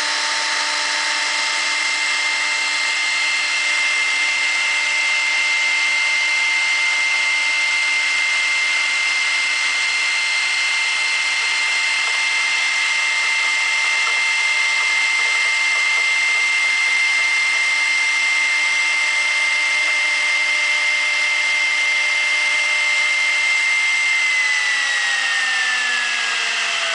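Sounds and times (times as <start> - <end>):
router spindle whining: 0.0 - 26.9.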